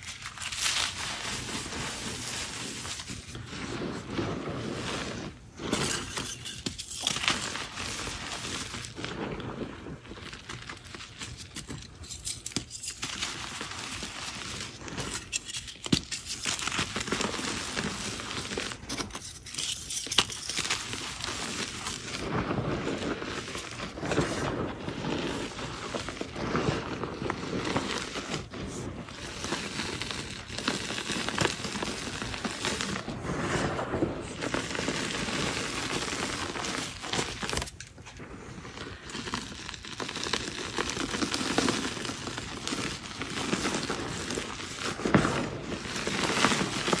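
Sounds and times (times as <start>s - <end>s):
chalk powder crunching in hands: 0.0s - 47.0s.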